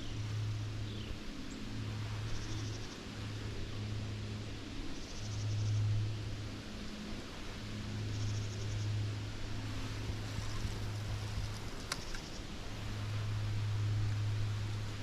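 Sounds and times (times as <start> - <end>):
low outdoor hum: 0.0 - 15.0.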